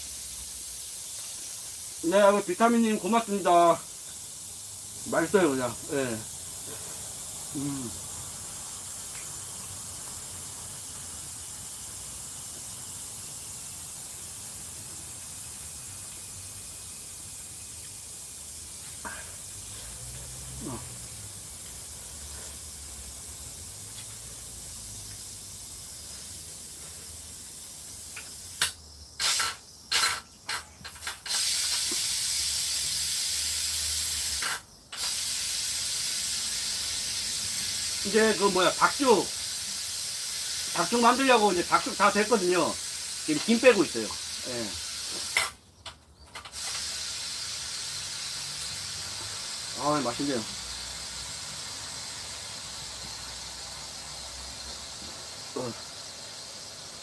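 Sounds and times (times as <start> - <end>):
pressure cooker steam hissing: 0.0 - 30.2, 30.8 - 45.6, 46.4 - 57.0
steam sputtering spurts: 0.0 - 30.2, 30.8 - 45.6, 46.4 - 57.0.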